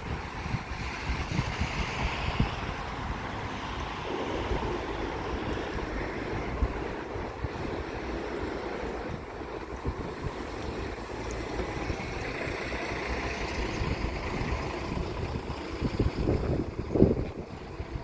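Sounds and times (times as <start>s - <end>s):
outdoor rumble: 0.0s - 18.0s
wind buffeting microphone: 0.0s - 18.0s.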